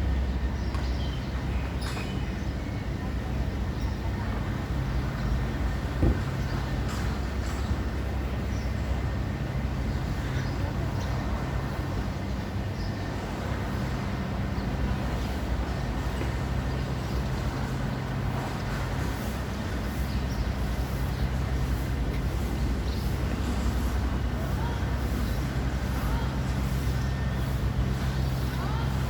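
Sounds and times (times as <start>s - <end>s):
road traffic rumble: 0.0s - 29.0s
street noise: 0.0s - 29.0s.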